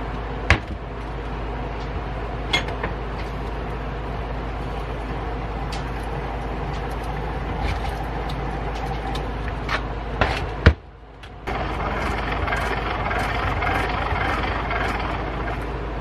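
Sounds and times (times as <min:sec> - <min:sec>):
grain grinder gears rumbling: 0:00.0 - 0:10.3, 0:11.4 - 0:16.0.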